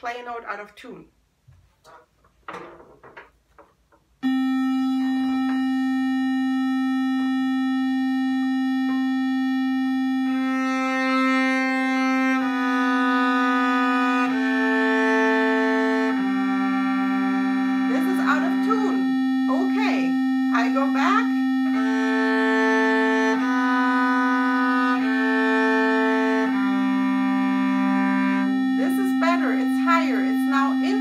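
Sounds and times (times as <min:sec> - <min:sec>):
cello bowing a descending scale: 0:04.2 - 0:31.0
steady drone tone: 0:04.2 - 0:31.0.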